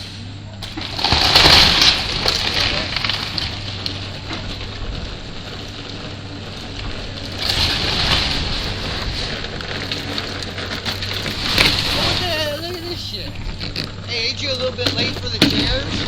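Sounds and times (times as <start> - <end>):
machinery engine hum: 0.0 - 16.0
debris crunching and breaking: 0.6 - 14.0.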